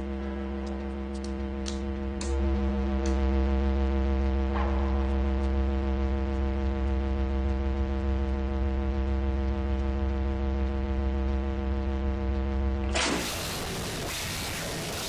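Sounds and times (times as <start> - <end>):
harsh synthesized buzzing drone: 0.0 - 15.0.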